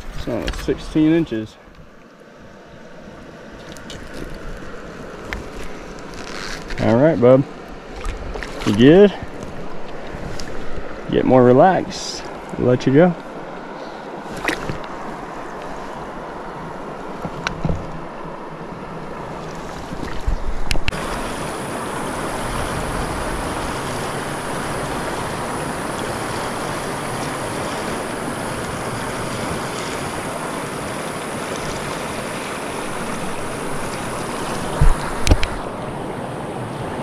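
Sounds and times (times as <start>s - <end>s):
river water rushing: 2.2s - 37.0s.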